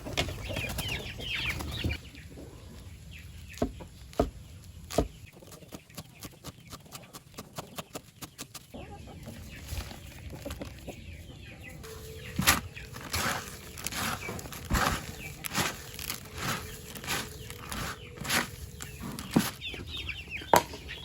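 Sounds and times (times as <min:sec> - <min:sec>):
chickens clucking: 0:00.0 - 0:04.4, 0:05.1 - 0:21.0.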